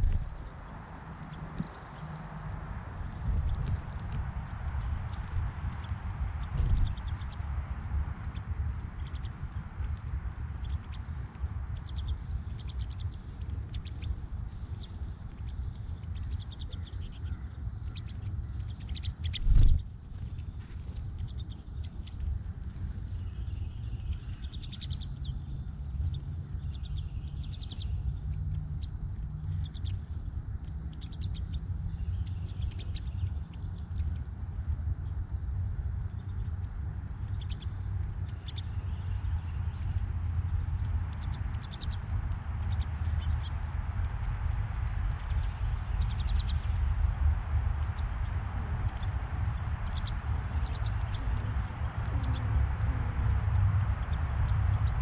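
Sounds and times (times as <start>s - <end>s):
low rumble: 0.0s - 16.9s, 17.5s - 55.0s
birds chirping: 0.0s - 55.0s.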